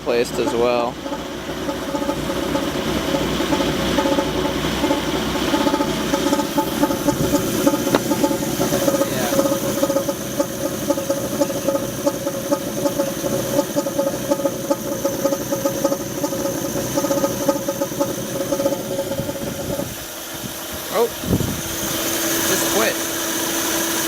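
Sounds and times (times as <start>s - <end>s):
car engine idling rough: 0.0s - 24.0s
high-pitched tone: 0.3s - 19.9s.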